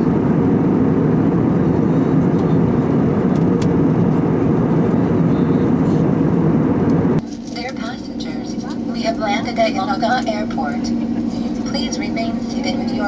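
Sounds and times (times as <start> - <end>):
jet engines and airflow in cabin: 0.0 - 13.0.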